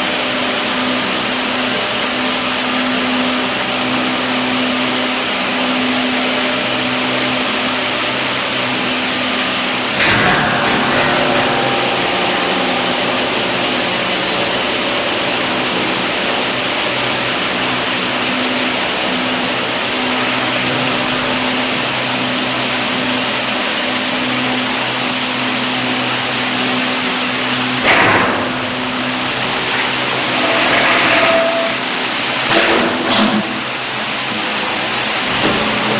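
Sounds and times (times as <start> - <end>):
workshop machinery hum and hiss: 0.0 - 35.9.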